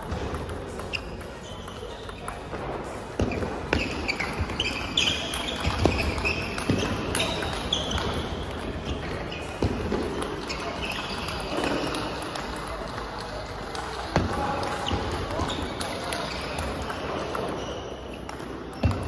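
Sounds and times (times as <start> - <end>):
table tennis ball clicking: 0.0 - 2.6, 3.2 - 19.0
shoes squeaking on floor: 0.0 - 12.3, 14.4 - 19.0.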